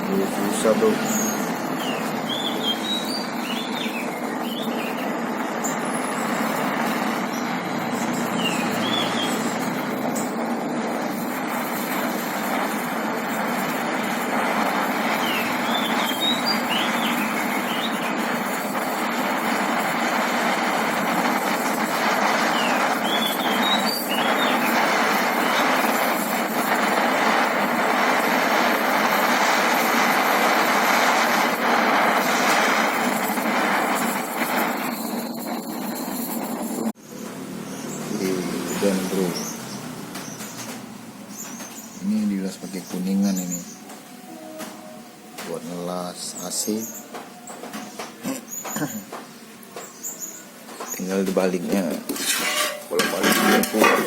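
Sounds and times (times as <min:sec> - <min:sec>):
gas torch flame hissing: 0:00.0 - 0:54.0.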